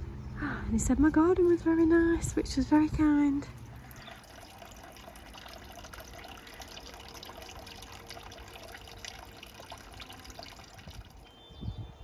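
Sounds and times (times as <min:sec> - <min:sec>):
water trickling and splashing: 0:01.4 - 0:11.4.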